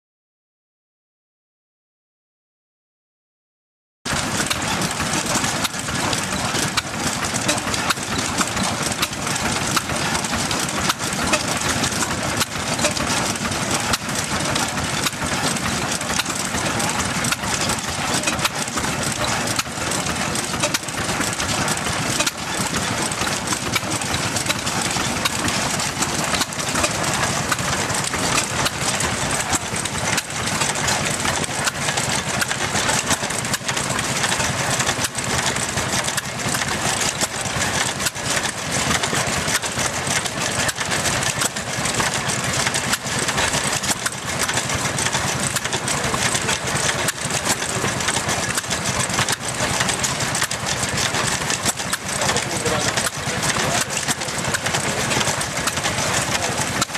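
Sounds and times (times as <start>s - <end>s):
stationary engine running: 4.1s - 56.9s.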